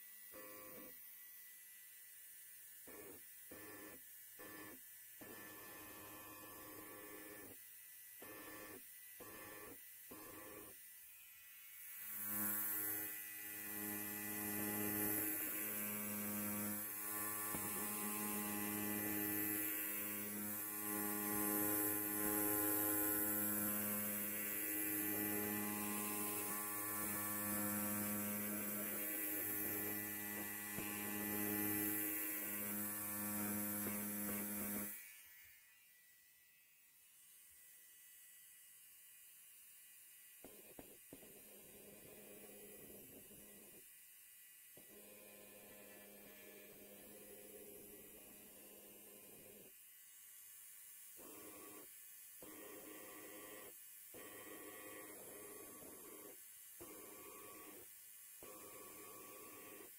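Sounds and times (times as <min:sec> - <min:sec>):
electric hair clipper buzzing: 0:00.0 - 0:59.9.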